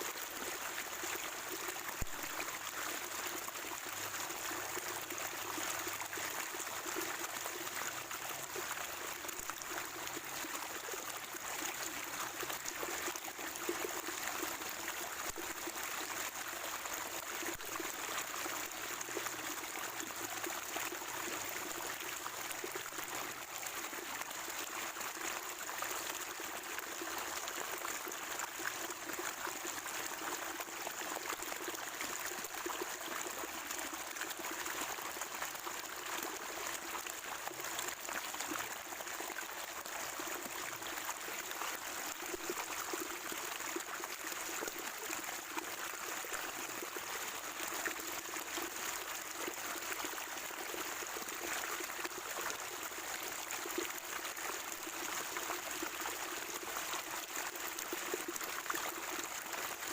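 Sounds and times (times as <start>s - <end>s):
spring water trickling and gurgling: 0.0s - 59.9s.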